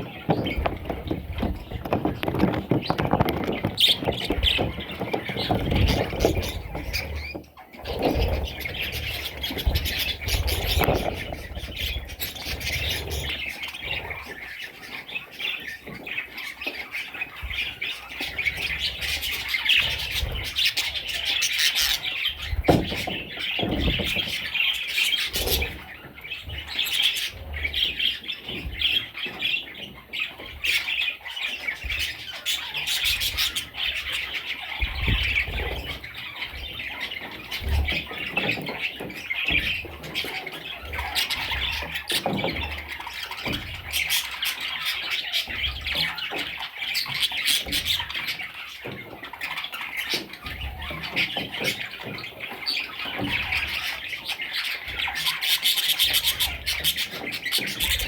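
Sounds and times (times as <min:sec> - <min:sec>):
budgerigars squawking and chirping: 0:00.0 - 0:58.0.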